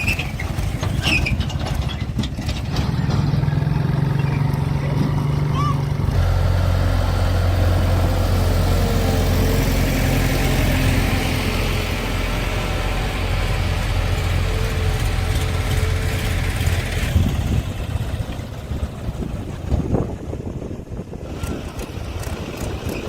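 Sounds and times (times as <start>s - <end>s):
diesel engine running at low revs: 0.0s - 23.0s.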